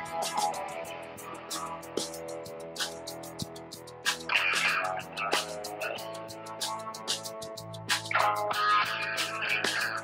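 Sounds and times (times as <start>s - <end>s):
background music with light percussion: 0.0s - 10.0s.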